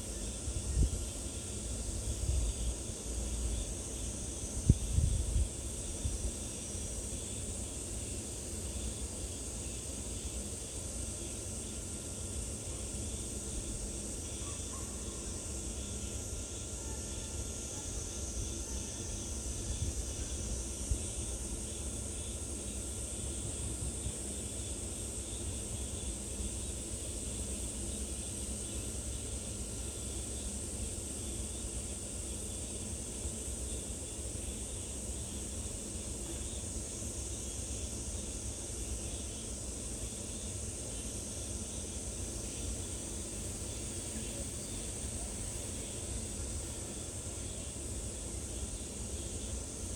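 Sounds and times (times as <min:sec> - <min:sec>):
high-pitched insect chorus: 0:00.0 - 0:49.9.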